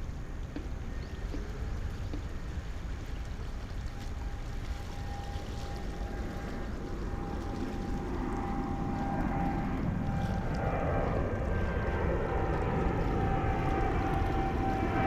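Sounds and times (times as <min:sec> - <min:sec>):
faint steady whine: 0:00.0 - 0:15.0
jet engine rumble: 0:00.0 - 0:15.0.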